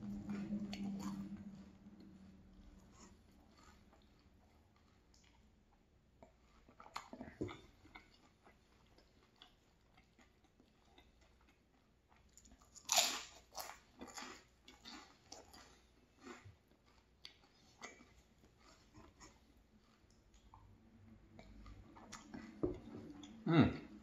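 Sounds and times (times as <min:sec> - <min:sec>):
crunchy pastry chewing: 0:00.0 - 0:23.6.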